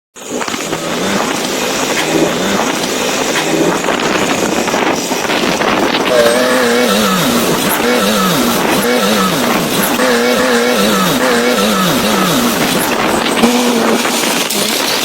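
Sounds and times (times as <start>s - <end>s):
heavy diesel machinery engine: 0.2s - 15.0s.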